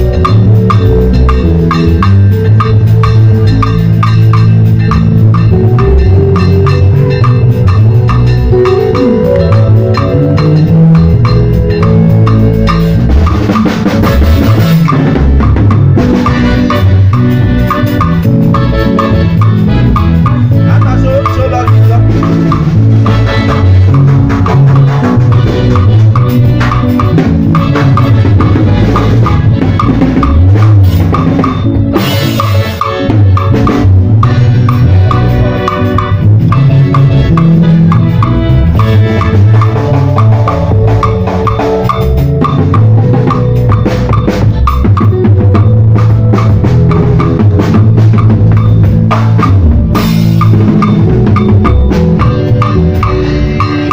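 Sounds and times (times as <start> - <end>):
drum kit playing a beat: 0.0 - 53.9
music with bass line: 0.0 - 53.9.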